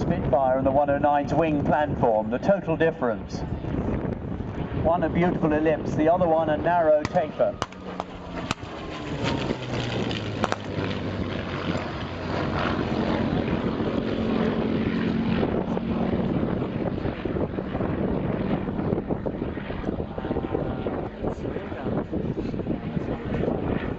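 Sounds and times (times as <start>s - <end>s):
propeller engine drone: 0.0s - 23.9s.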